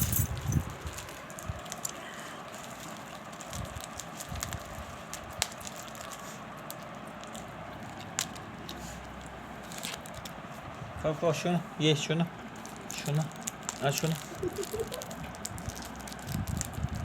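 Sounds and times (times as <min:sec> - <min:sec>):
parrot crunching with its beak: 0:00.6 - 0:10.4, 0:12.5 - 0:17.0.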